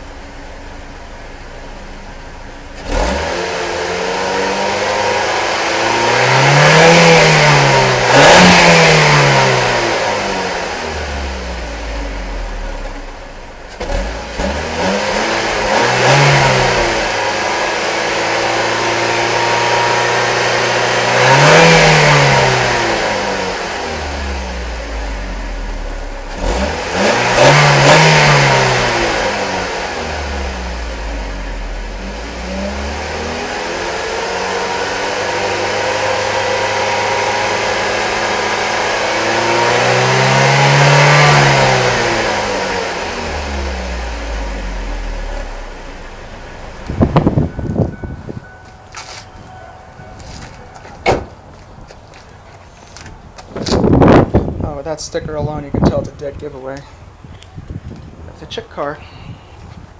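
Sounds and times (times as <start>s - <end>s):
car engine idling and revving: 0.0s - 58.8s.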